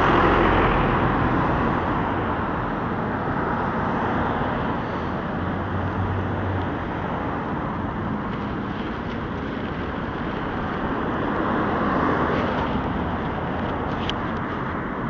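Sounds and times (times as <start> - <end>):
car passing close: 0.0 - 15.0
road traffic noise: 0.0 - 15.0.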